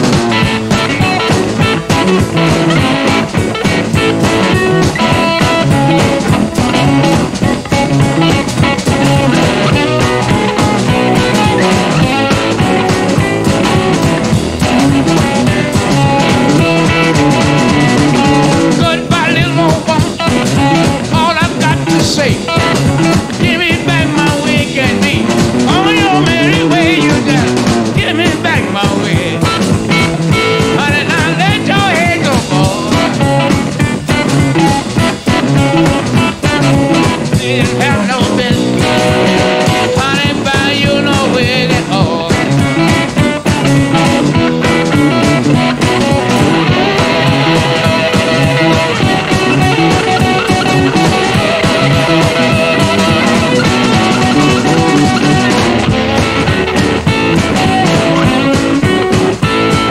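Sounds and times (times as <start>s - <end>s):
drum kit: 0.0s - 59.9s
electric blues band: 0.0s - 59.9s
electric guitars: 0.0s - 59.9s
high lead guitar with vibrato: 0.0s - 59.9s.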